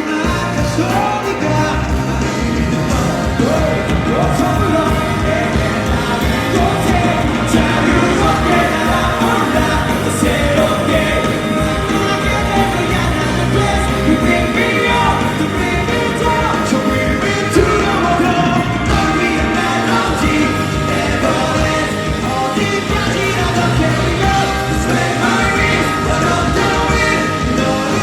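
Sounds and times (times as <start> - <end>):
live rock band music: 0.0 - 28.0
person singing: 0.0 - 28.0.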